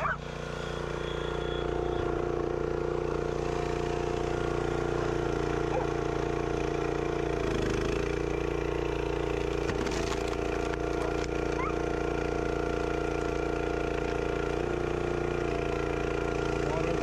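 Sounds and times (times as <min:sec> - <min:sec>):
small gas engine running: 0:00.0 - 0:17.0.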